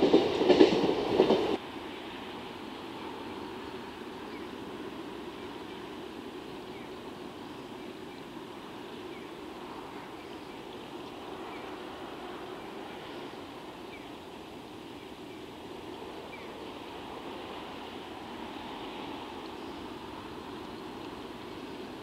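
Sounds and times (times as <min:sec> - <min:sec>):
distant train rumble: 0:00.0 - 0:22.0
outdoor ambience: 0:00.0 - 0:22.0.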